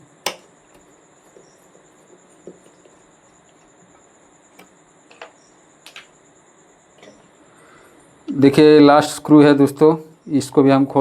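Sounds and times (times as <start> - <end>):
faint high-pitched whine: 0.0 - 11.0.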